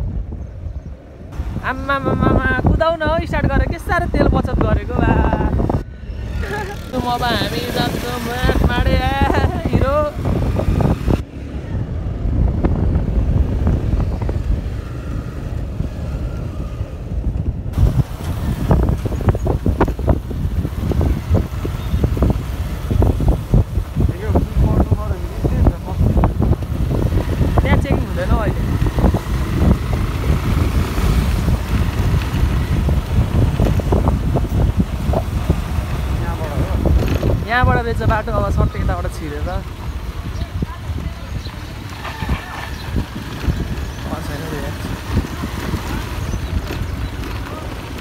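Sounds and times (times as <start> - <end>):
wind buffeting microphone: 0.0 - 48.0
motorcycle engine running: 1.4 - 11.2, 11.8 - 48.0.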